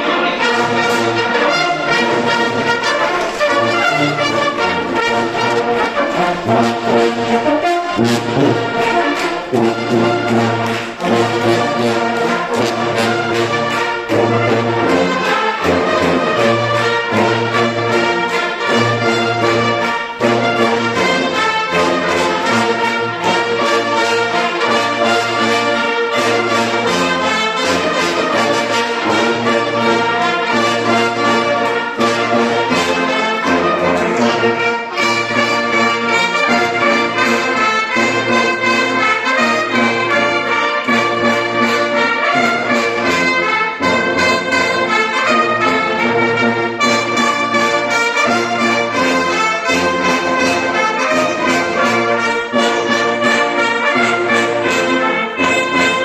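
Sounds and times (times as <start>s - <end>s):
brass band playing a march: 0.0s - 56.0s.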